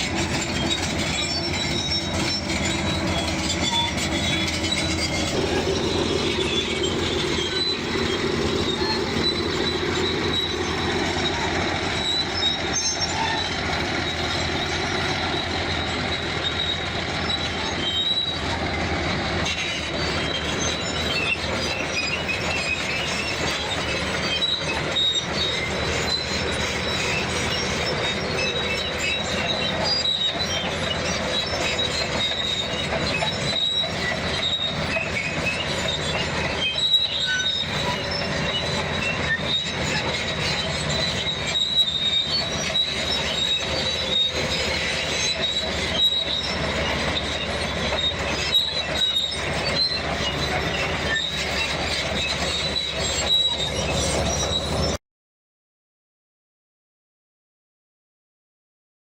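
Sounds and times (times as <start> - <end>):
bulldozer engine running: 0.0 - 55.0
crawler tracks squealing: 0.0 - 55.0.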